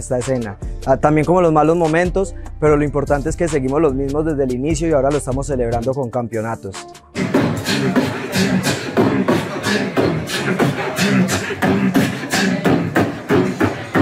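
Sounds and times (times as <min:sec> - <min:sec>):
person beatboxing: 0:00.0 - 0:05.9, 0:06.8 - 0:14.0.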